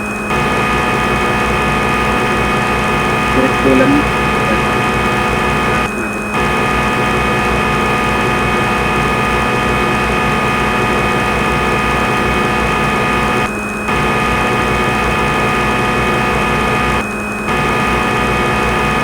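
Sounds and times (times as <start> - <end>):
machine hum with high whine: 0.0 - 19.0.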